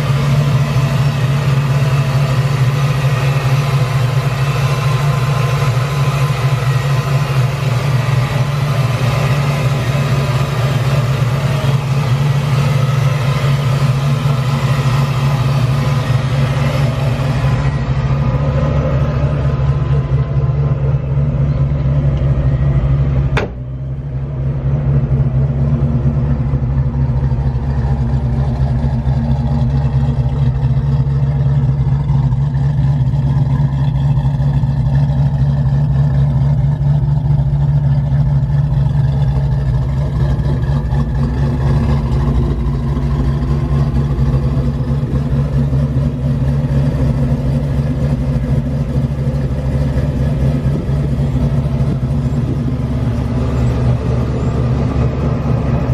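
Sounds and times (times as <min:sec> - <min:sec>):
supercharged car engine running: 0:00.0 - 0:55.9.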